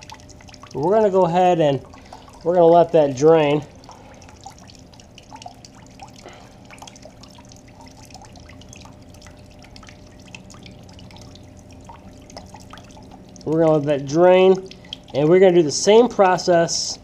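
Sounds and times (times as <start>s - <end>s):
liquid trickling into pan: 0.0s - 16.4s.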